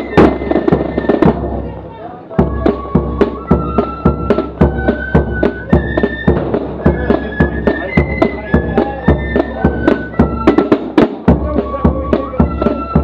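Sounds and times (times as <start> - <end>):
drums beating steady rhythm: 0.0 - 13.0
flutes playing melody: 0.0 - 13.0.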